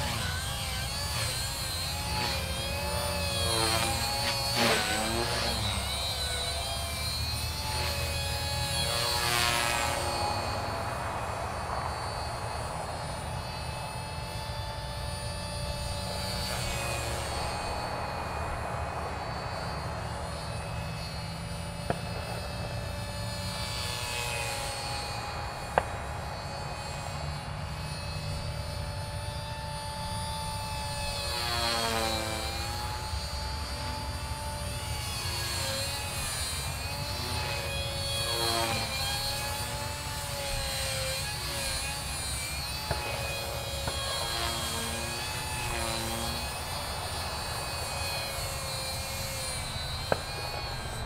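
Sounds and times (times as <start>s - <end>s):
rc helicopter motor whine: 0.0s - 51.0s.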